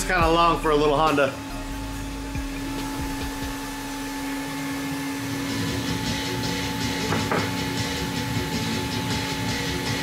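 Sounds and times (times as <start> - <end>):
mechanical hum with tones: 0.0 - 10.0.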